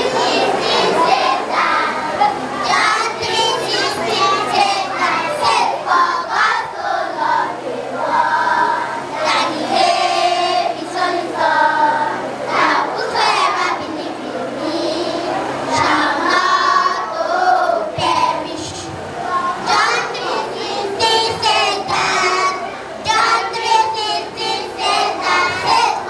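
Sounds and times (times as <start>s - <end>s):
children's choir singing: 0.0s - 26.0s
faint steady hum: 0.0s - 26.0s.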